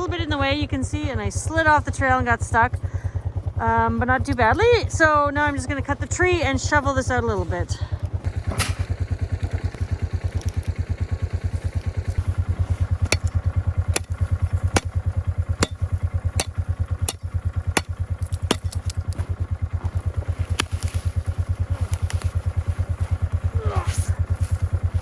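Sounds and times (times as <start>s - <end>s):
quad engine idling: 0.0s - 25.0s.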